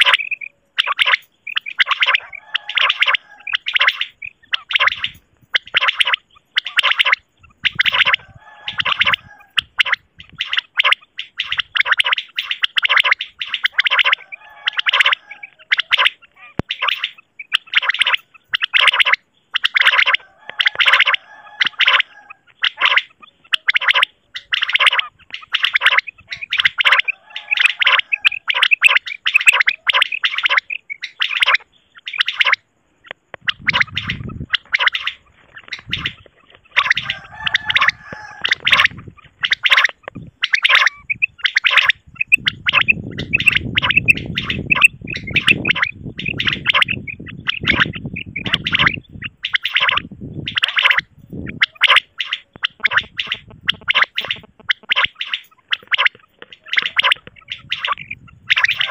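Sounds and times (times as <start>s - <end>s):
quail calls: 0.0s - 58.9s.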